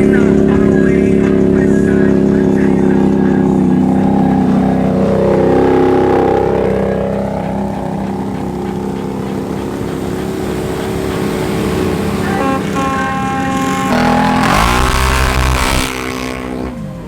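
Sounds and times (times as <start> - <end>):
side-by-side engine running hard: 0.0 - 17.0.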